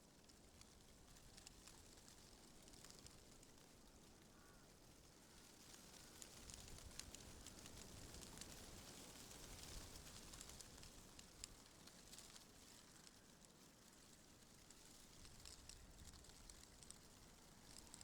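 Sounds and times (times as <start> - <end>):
wind rustling through leaves: 0.1 - 18.0.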